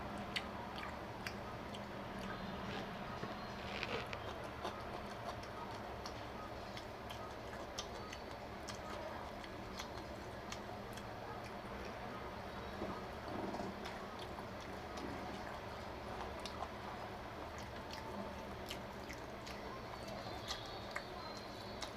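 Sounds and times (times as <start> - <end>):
steady low hum: 0.0 - 21.9
person chewing food: 0.2 - 21.9.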